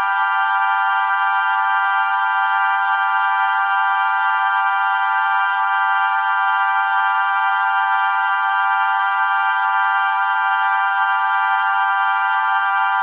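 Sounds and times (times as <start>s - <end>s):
drone of held tones: 0.0s - 13.0s.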